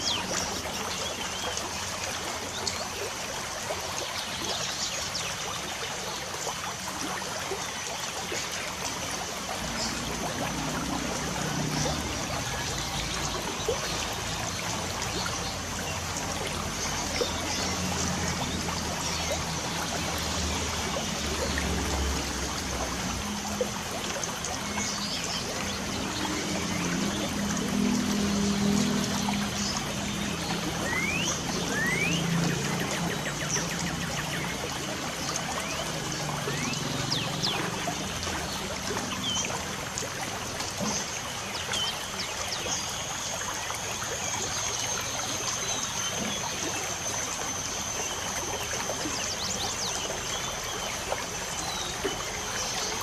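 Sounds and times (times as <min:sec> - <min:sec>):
light rain: 0:06.0 - 0:53.0.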